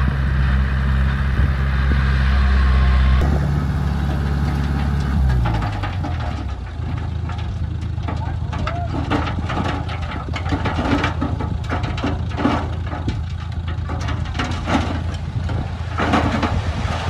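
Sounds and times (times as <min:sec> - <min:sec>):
diesel engine running: 0:00.0 - 0:17.0
metal clanks and knocks: 0:03.2 - 0:17.0.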